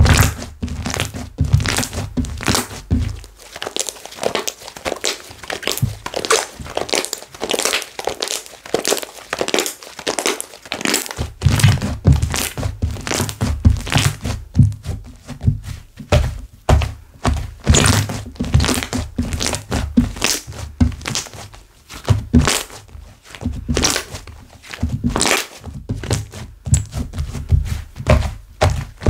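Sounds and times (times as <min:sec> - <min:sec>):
hands squishing slime: 0:00.0 - 0:29.0.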